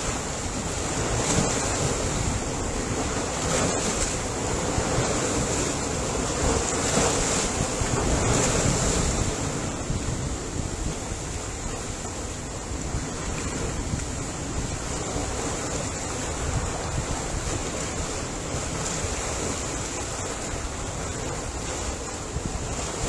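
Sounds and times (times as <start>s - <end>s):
ocean waves washing: 0.0s - 23.0s.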